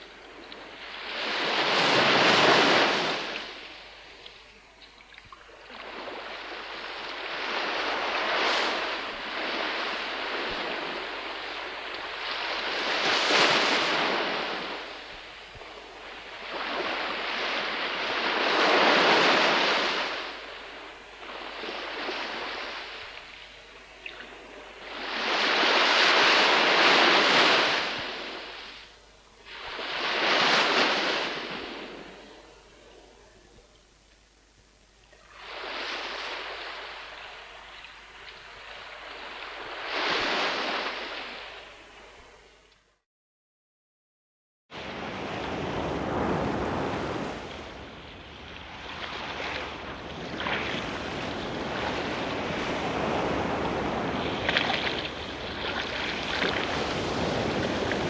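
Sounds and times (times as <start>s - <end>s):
ocean waves washing in: 5.6s - 28.9s, 29.5s - 32.3s, 35.2s - 42.4s, 44.8s - 58.0s.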